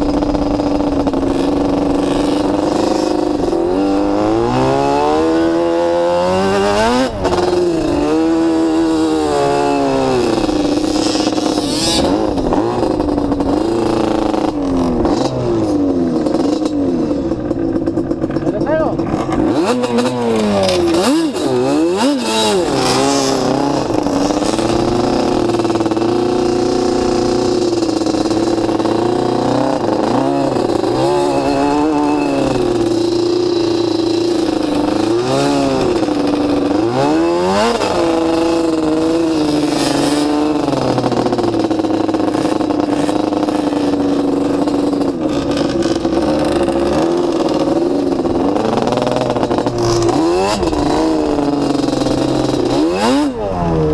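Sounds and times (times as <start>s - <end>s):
quad engine revving: 0.0s - 53.9s.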